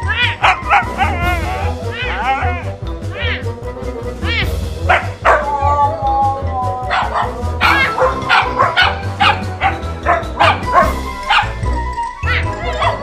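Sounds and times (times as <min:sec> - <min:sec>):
dog yowling and whining: 0:00.0 - 0:03.5, 0:04.3 - 0:13.0
background music: 0:00.0 - 0:13.0.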